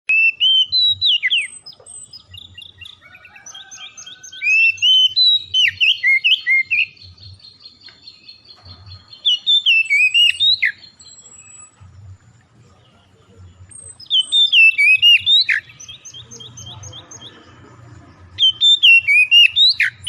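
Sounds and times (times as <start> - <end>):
songbird singing: 0.1 - 20.0.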